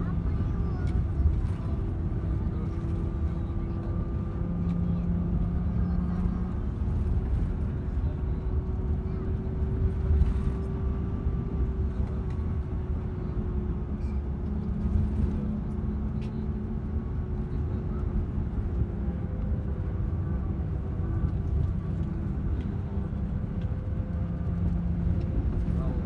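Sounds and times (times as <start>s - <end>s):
road rumble: 0.0s - 26.0s
vehicle engine drone: 0.0s - 26.0s.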